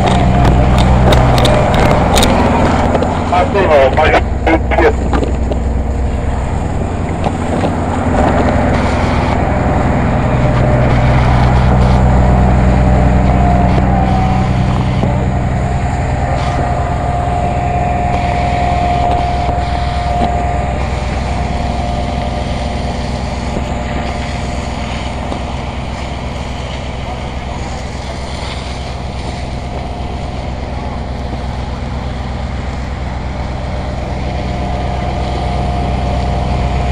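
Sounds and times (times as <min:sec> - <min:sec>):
faint steady whine: 0:00.0 - 0:36.9
fire engine motor running: 0:00.0 - 0:36.9.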